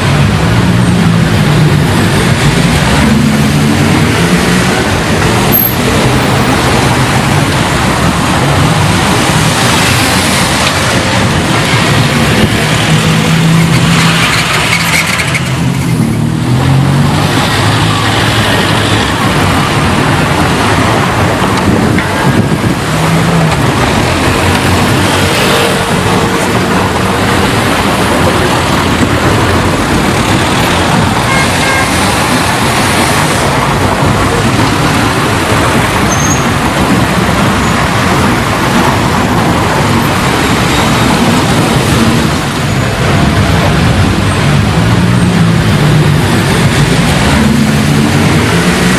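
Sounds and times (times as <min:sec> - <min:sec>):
passing traffic: 0:00.0 - 0:48.9.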